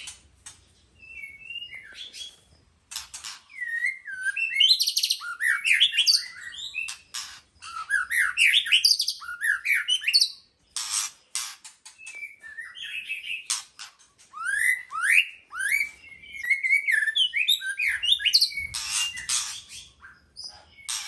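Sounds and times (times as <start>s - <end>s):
bird whistling song: 1.0s - 2.5s, 3.4s - 10.9s, 11.8s - 21.0s.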